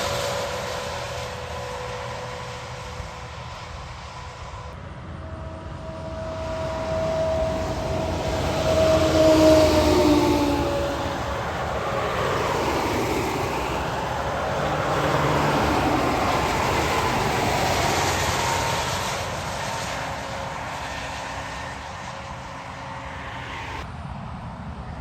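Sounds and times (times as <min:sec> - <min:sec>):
truck engine hum: 0:00.0 - 0:23.9.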